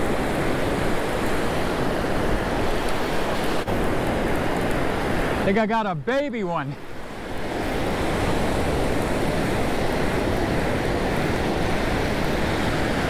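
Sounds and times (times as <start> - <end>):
ocean waves breaking on beach: 0.0 - 13.0.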